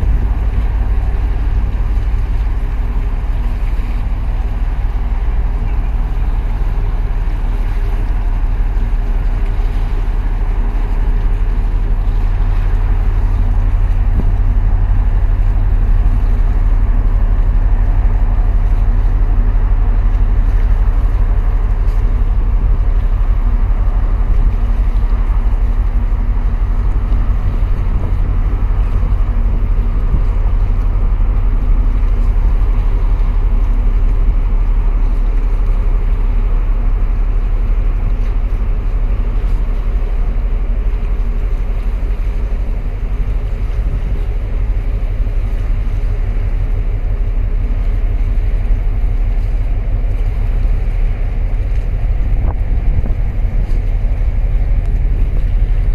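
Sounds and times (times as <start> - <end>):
ship engine drone: 0.0 - 55.9
wind buffeting microphone: 0.0 - 55.9.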